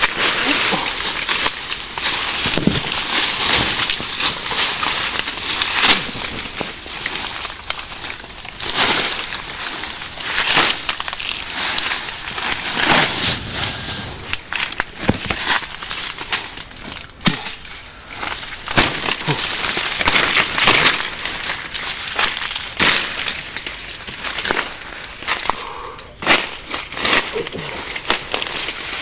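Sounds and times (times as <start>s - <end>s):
crunching and rustling: 0.6s - 25.5s, 26.2s - 29.0s.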